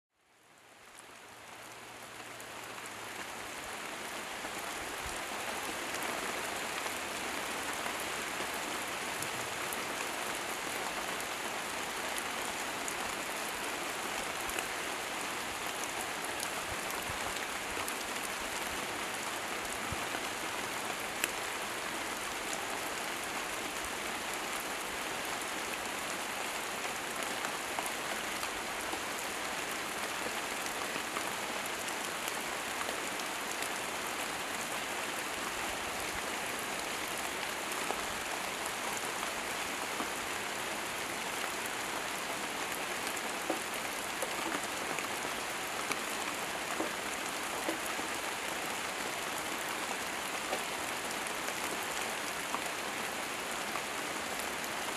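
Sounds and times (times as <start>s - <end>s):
rain falling on leaves: 0.1s - 54.9s.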